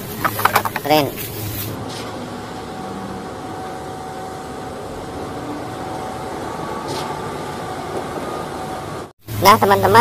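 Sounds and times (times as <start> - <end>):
concrete mixer truck engine hum: 0.0 - 9.4
street noise: 0.0 - 10.0.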